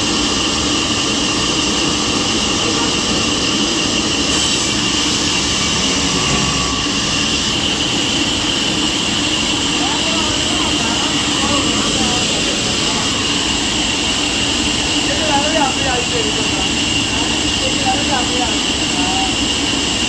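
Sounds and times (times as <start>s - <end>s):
high machine whine: 0.0s - 20.0s
sawmill saw running: 0.0s - 20.0s.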